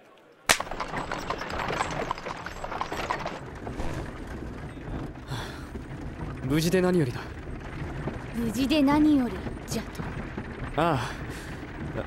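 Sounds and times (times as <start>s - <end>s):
cart rattling: 0.5s - 12.0s
horse hooves clopping: 0.5s - 12.0s.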